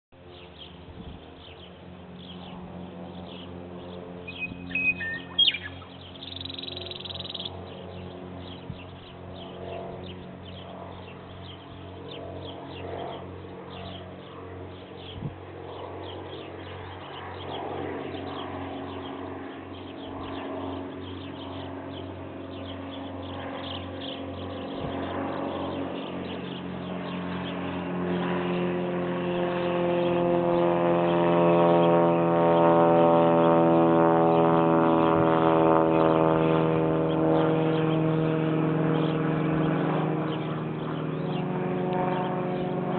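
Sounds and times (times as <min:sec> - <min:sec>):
propeller plane engine droning: 0:00.1 - 0:42.9
birds chirping: 0:00.2 - 0:32.8, 0:34.2 - 0:42.9.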